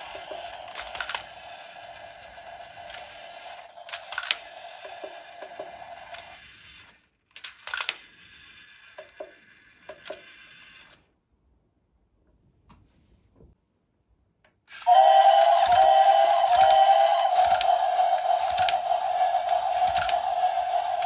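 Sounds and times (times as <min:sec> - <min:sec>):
toy motor and gears whirring: 0:00.0 - 0:11.1, 0:14.7 - 0:21.0.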